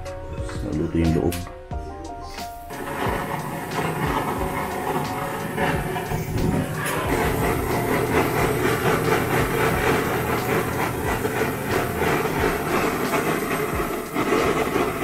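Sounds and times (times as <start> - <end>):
blowtorch hissing: 2.4 - 15.0.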